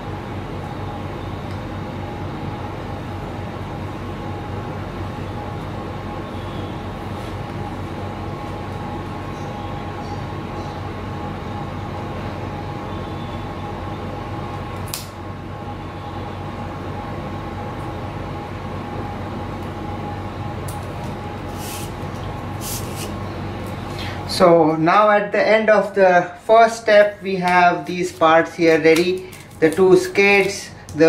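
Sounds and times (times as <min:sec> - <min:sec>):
mechanical drone with low hum: 0:00.0 - 0:31.0.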